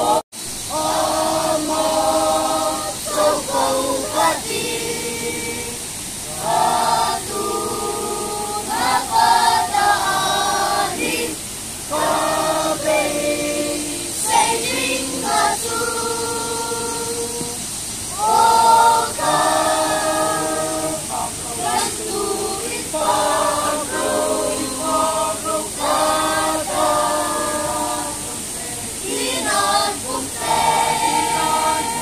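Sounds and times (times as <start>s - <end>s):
children and adults singing: 0.0s - 32.0s.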